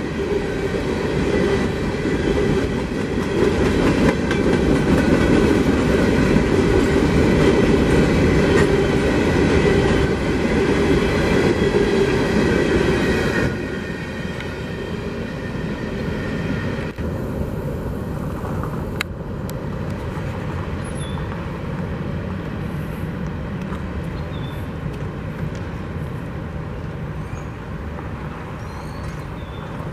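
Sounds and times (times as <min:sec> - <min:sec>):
train cars rumbling past: 0:00.0 - 0:29.9.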